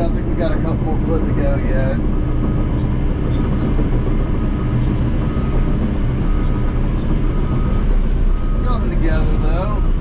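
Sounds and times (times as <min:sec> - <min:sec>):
diesel engine running under load: 0:00.0 - 0:10.0
faint machine whine: 0:00.0 - 0:10.0.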